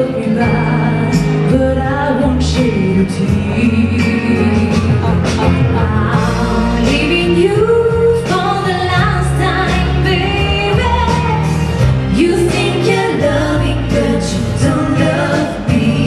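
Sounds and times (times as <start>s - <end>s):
instrumental backing: 0.0s - 16.0s
vocal group singing: 0.0s - 16.0s.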